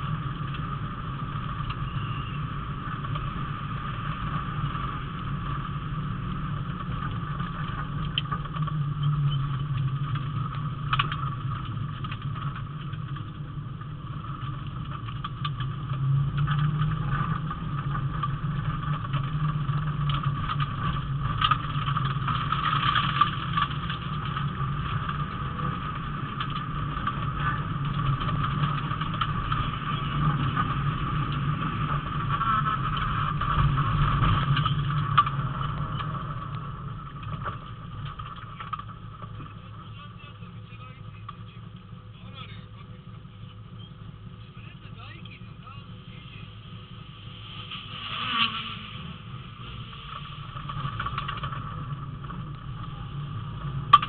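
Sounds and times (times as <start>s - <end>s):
clicks and knocks from road: 0.0s - 54.0s
rally car engine from inside cabin: 0.0s - 54.0s.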